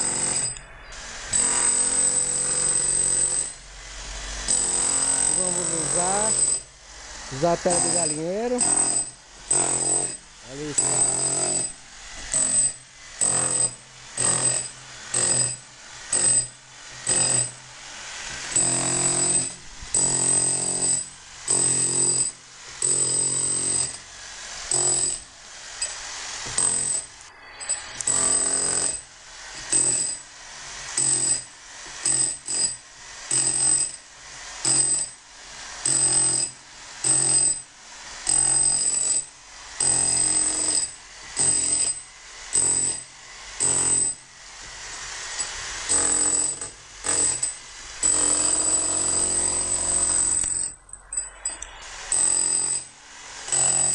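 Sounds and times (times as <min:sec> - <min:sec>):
electric hammer chipping wall: 0:00.0 - 0:53.9.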